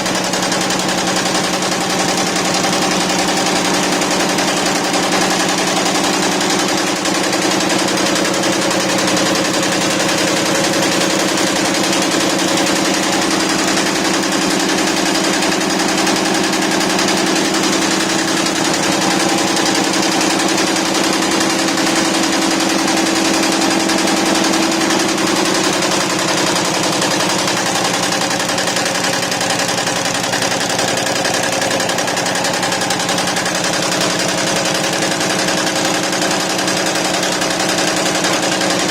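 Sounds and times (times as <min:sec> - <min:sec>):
embroidery machine clattering: 0:00.0 - 0:38.9.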